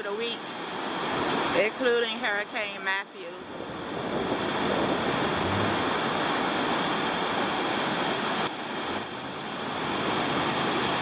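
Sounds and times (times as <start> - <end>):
river water rushing: 0.0 - 3.0, 3.6 - 11.0.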